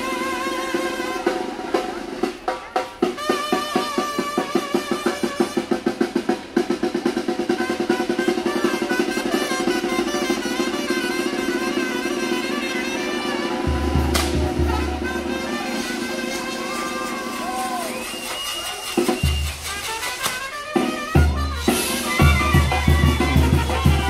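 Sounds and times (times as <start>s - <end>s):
brass band playing: 0.0s - 24.0s
drum fast run of strokes: 0.0s - 24.0s.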